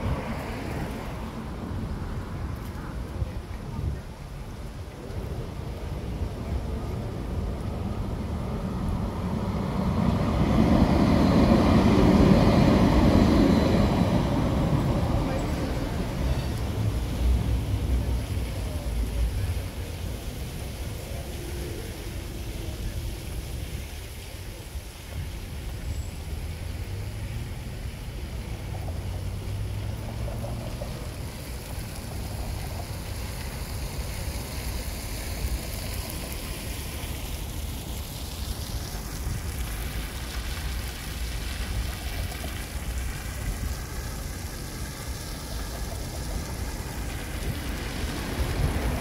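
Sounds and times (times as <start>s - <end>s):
low rumble of traffic: 0.0s - 49.0s.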